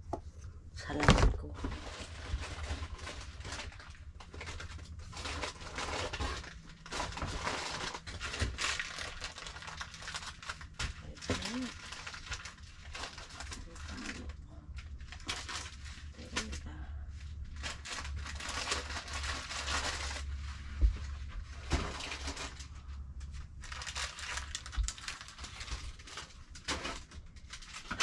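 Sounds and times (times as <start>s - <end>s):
plastic bags and boxes rustling: 0.0s - 28.0s.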